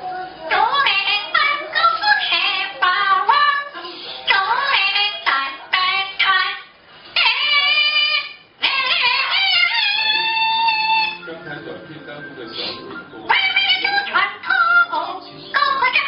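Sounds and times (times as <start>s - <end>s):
parrot singing: 0.5s - 11.4s, 12.2s - 16.0s.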